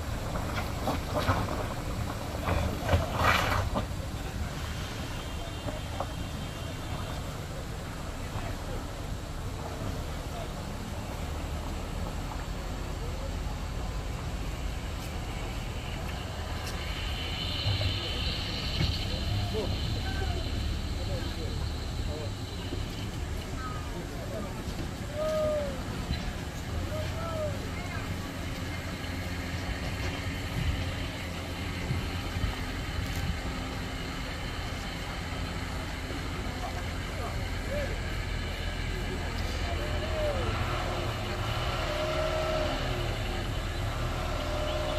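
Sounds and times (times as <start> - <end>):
heavy vehicle engine rumbling: 0.0 - 44.9
high steady whine: 0.0 - 44.9
road noise: 0.0 - 44.9.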